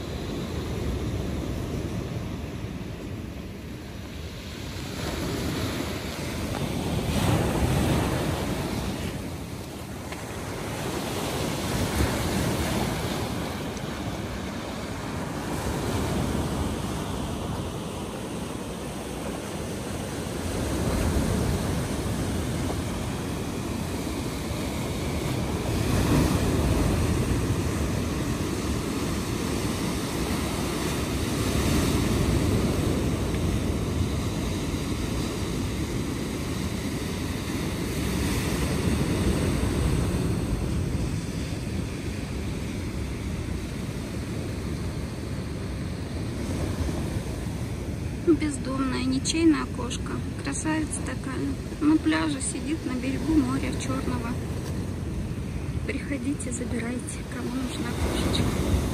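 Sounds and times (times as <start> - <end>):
sea surf breaking on shore: 0.0 - 58.9
wind blowing across microphone: 0.0 - 58.9.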